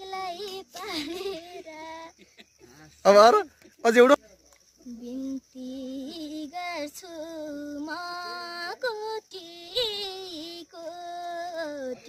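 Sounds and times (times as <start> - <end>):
girl singing unaccompanied: 0.0 - 2.8, 4.8 - 12.0.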